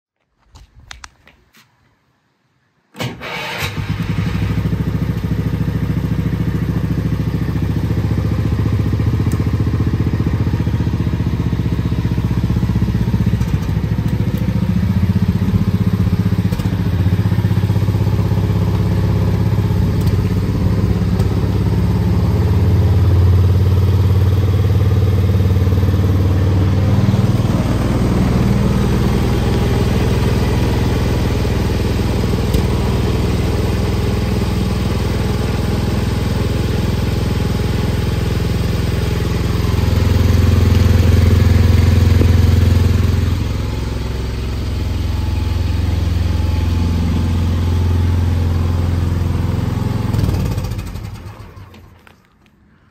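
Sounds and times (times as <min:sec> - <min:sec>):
small engine starting and idling: 0:03.0 - 0:52.6.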